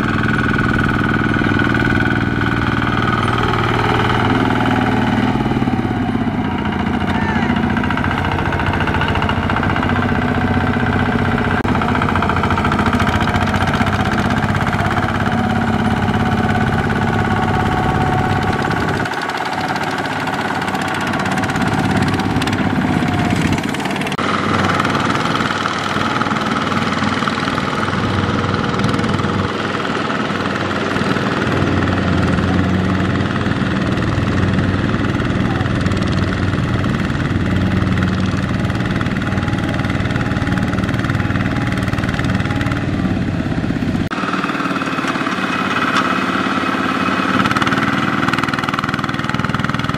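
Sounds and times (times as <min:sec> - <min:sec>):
diesel engine running hard: 0:00.0 - 0:49.9.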